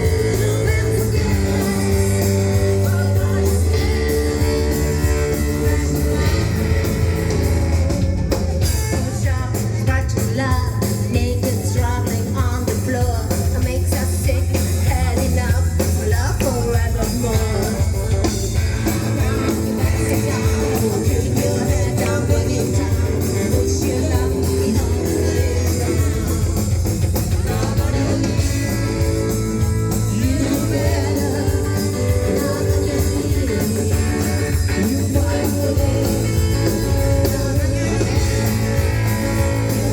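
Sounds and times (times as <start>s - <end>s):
person singing: 0.0s - 39.9s
rockabilly band playing live: 0.0s - 39.9s.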